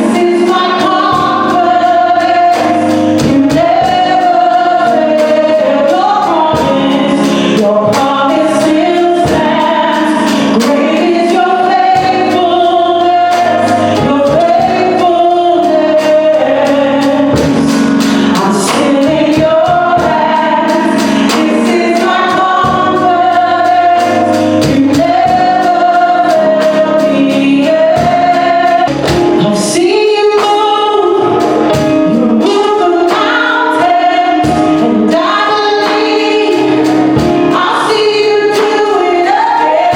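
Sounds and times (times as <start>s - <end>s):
group singing gospel song: 0.0s - 39.9s
instrumental accompaniment with beat: 0.0s - 39.9s.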